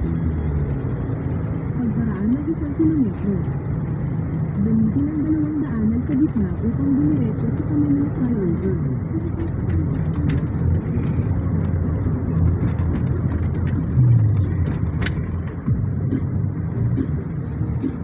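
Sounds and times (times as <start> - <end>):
music playing: 0.0 - 3.5, 4.4 - 18.0
car cabin road rumble: 0.0 - 18.0.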